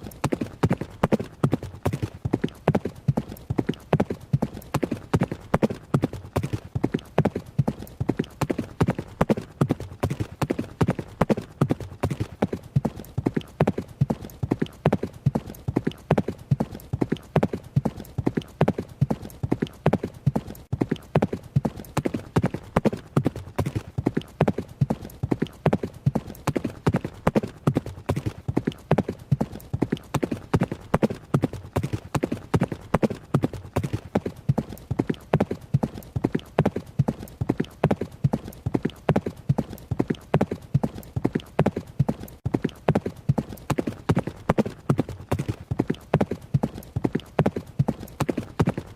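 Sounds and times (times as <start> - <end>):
horse hooves galloping: 0.0 - 48.9.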